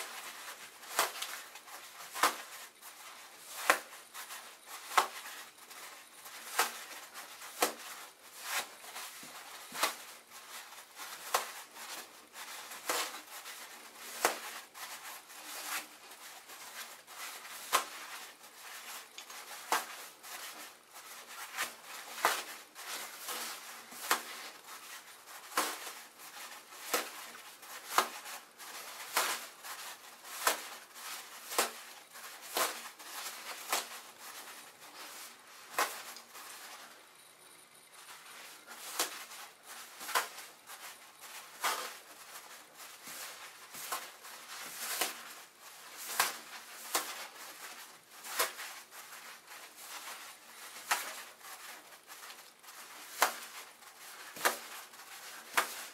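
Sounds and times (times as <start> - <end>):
paper rustling: 0.0 - 55.9.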